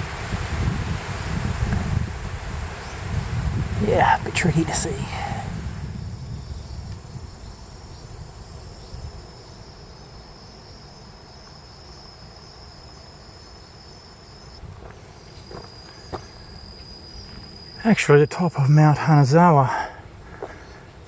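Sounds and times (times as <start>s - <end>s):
insects trilling: 2.8s - 21.0s.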